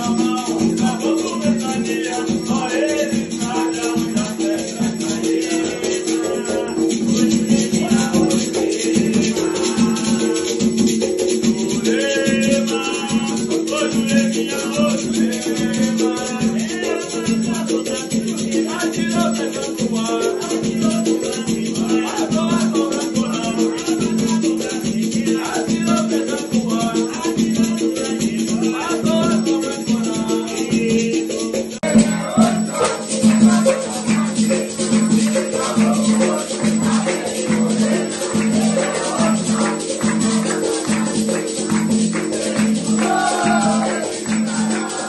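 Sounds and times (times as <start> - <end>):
person singing: 0.0 - 10.8, 11.5 - 45.0
shaker rhythm: 0.0 - 45.0.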